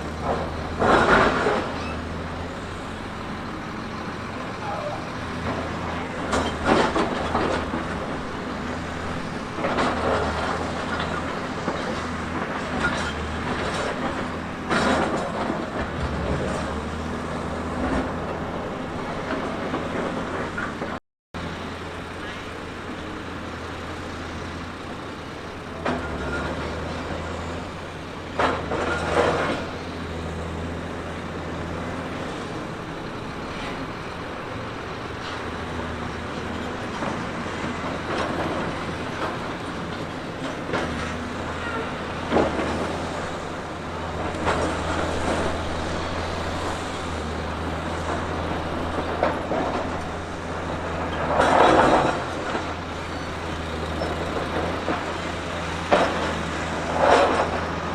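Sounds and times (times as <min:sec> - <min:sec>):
diesel engine humming: 0:00.0 - 0:57.9
loud engine noise bursts: 0:00.0 - 0:57.9.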